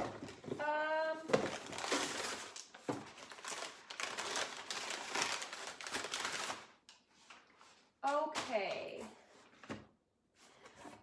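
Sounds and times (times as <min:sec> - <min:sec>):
paper crinkling and rustling: 0:00.0 - 0:08.9.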